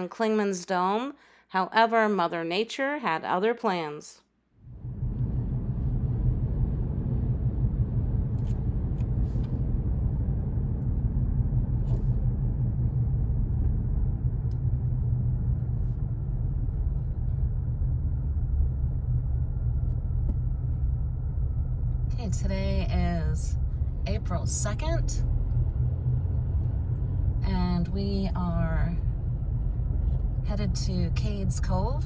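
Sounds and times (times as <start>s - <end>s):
car driving rumble: 4.6s - 32.0s.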